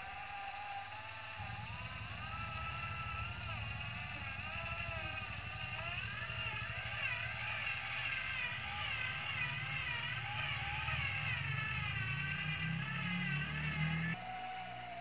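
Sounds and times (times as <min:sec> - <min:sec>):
model truck motor drone: 0:00.0 - 0:15.0.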